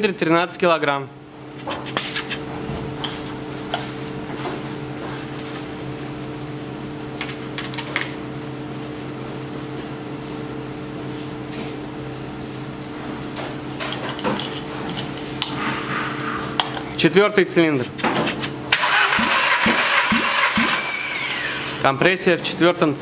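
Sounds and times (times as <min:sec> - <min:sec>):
machine hum: 0:01.0 - 0:22.5.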